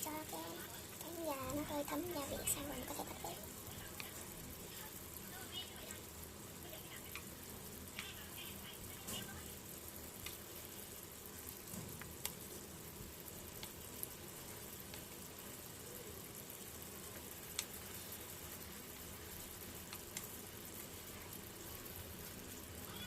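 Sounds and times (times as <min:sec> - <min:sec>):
chicken wings sizzling in a pan: 0:00.0 - 0:23.0.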